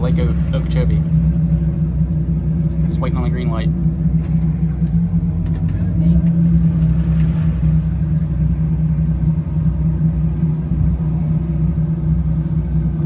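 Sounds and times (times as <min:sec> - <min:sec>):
boat engines idling: 0:00.0 - 0:13.0.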